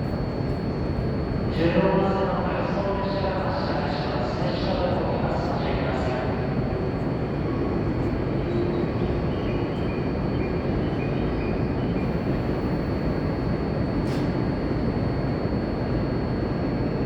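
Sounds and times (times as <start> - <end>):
train running noise: 0.0 - 16.9.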